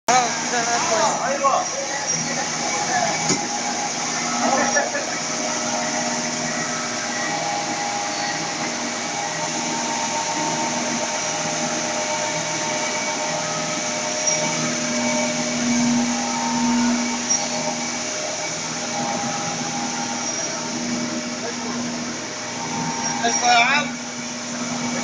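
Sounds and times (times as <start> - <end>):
press machine motor humming: 0.1 - 25.0.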